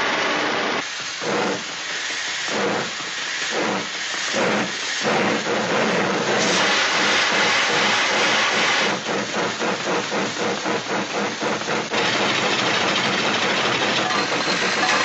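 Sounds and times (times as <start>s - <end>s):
mechanical chugging: 0.9s - 15.0s.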